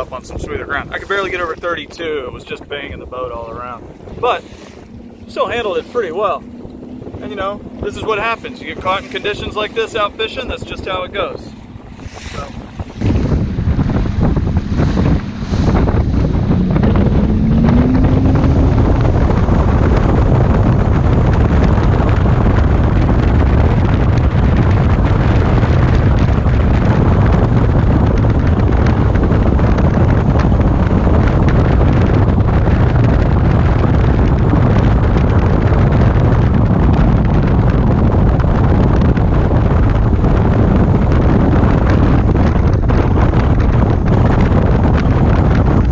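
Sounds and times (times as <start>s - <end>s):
outboard engine: 0.0s - 45.9s
wind buffeting microphone: 0.0s - 45.9s.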